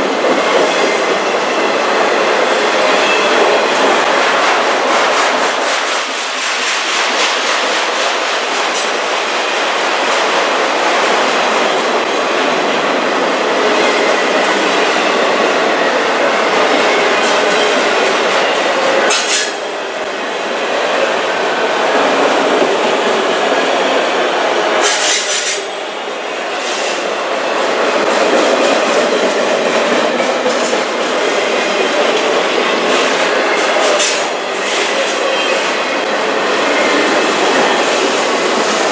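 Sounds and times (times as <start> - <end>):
clickety-clack over rail joints: 0.0 - 23.7, 24.8 - 25.8, 26.5 - 35.8
train wheels on rails: 0.0 - 38.9.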